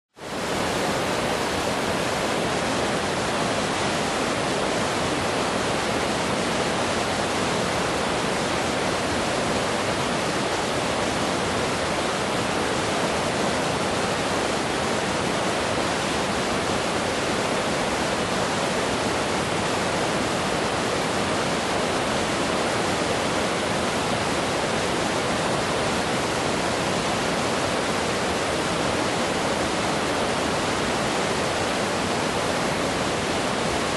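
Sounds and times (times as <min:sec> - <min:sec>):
river rushing over rocks: 0:00.2 - 0:33.9.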